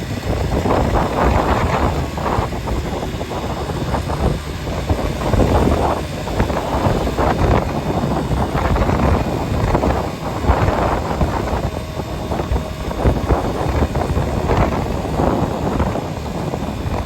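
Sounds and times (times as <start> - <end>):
road noise from moving vehicle: 0.0 - 17.0
wind buffeting microphone: 0.0 - 17.0.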